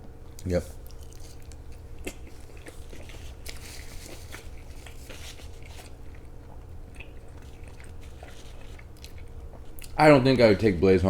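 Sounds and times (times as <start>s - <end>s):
person chewing food: 0.3s - 10.0s.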